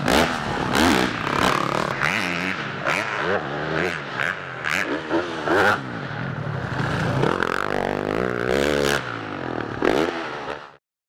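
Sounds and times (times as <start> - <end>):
motocross bike revving: 0.0 - 10.8.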